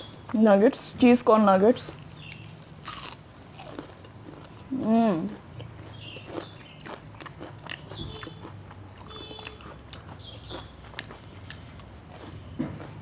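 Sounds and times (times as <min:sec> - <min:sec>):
person chewing food: 0:01.8 - 0:13.0.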